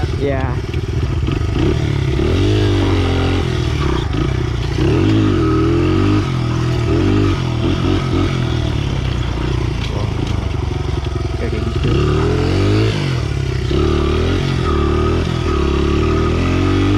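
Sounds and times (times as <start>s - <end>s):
pit bike engine revving: 0.0s - 16.9s.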